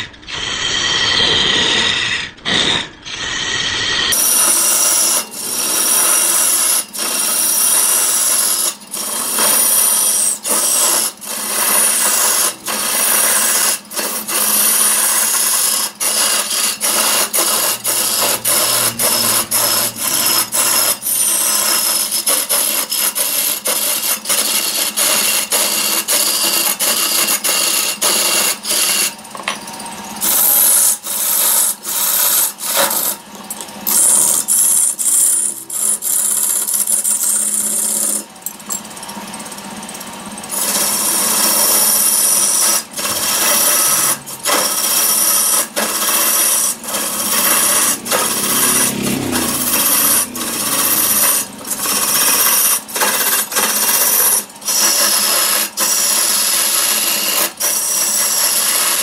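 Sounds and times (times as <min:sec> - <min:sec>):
tool scraping wood on lathe: 0:00.0 - 0:59.0.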